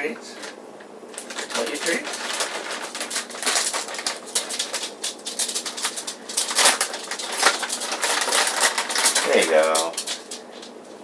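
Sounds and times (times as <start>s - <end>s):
plastic bag crinkling: 0.4s - 11.0s.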